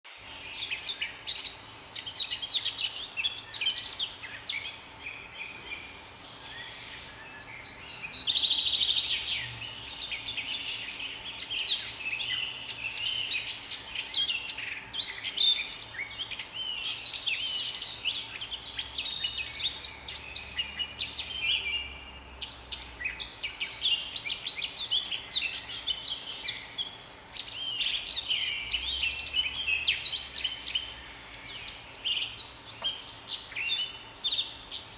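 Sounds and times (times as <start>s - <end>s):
songbirds chirping and singing: 0.1s - 34.9s.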